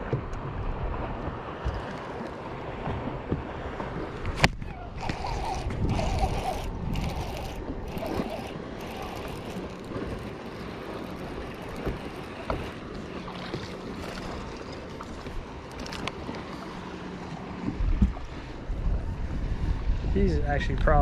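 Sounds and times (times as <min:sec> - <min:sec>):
wind buffeting microphone: 0:00.0 - 0:16.4, 0:17.4 - 0:21.0
water lapping: 0:00.0 - 0:20.6.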